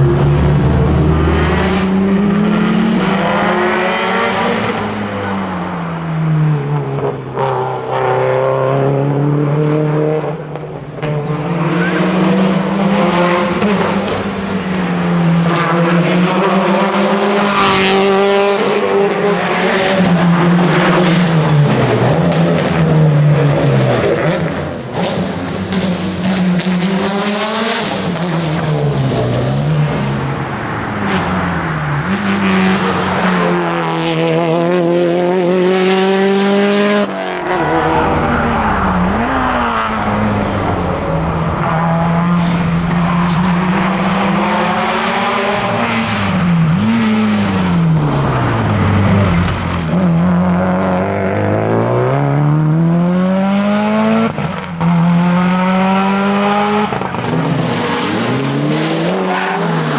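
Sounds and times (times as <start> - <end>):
car engine revving hard: 10.6 - 59.9.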